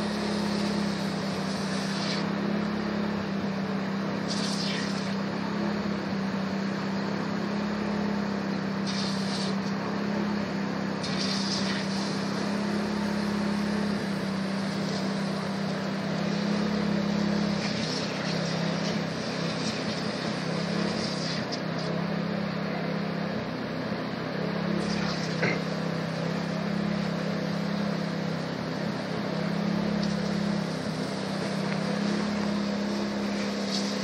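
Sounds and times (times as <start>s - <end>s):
small engine humming: 0.0s - 34.0s.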